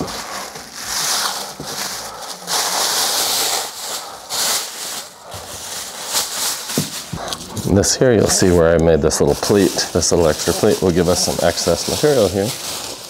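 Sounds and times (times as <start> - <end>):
plastic sheeting rustling: 0.0 - 13.0.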